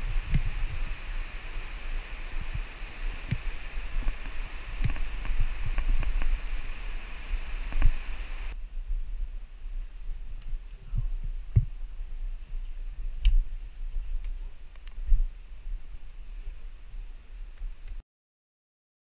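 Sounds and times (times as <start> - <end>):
low rumble and hiss: 0.0 - 18.0.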